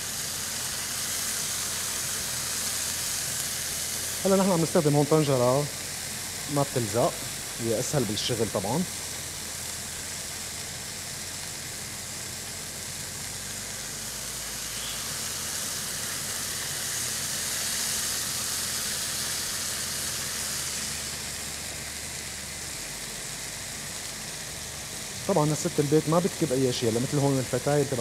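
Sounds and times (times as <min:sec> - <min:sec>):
chicken sizzling in a pan: 0:00.0 - 0:28.0.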